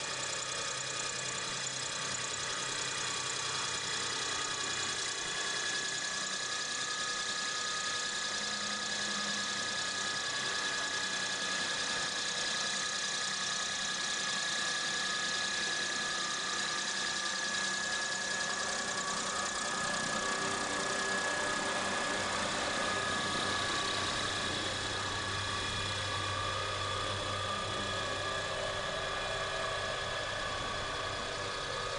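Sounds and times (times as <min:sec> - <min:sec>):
model helicopter whine: 0:00.0 - 0:31.9.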